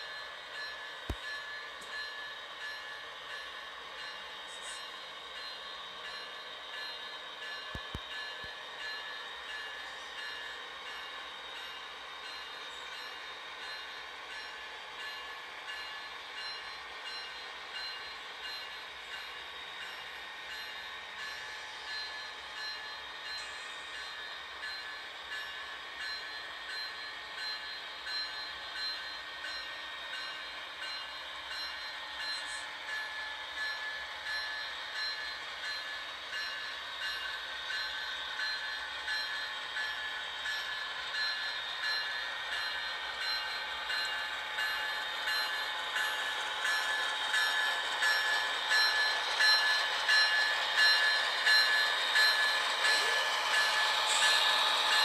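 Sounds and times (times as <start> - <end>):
railway warning bell ringing: 0.0 - 55.0.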